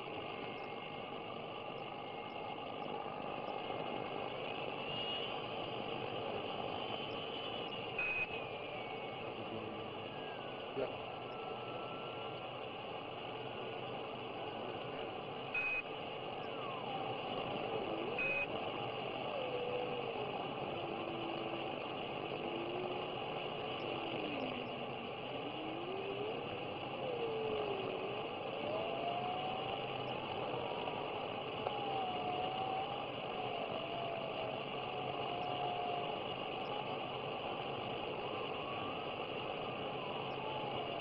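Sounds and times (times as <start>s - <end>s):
faint wandering whistle: 0.0s - 37.0s
radio static hiss: 0.0s - 41.0s.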